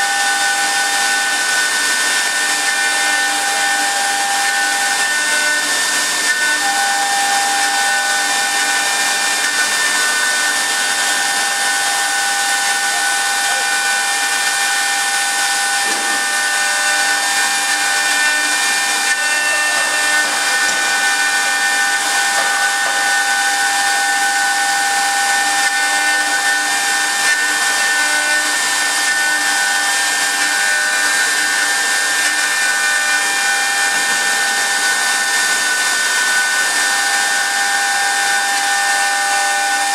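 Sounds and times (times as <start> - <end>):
lathe spindle whine: 0.0 - 39.9.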